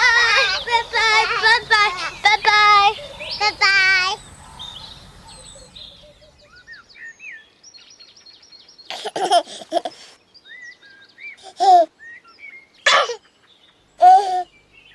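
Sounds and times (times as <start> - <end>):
small birds chirping and singing: 0.0 - 14.9.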